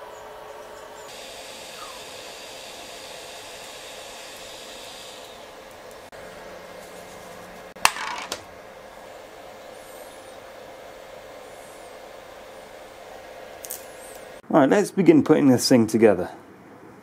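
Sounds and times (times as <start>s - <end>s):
printer cooling fans whirring: 0.0s - 7.8s, 8.4s - 14.4s.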